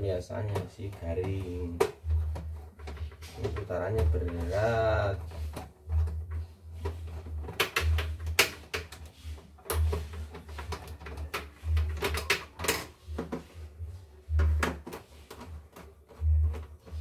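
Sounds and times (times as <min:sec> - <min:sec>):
clicks taps and scrapes on plastic: 0:00.0 - 0:17.0.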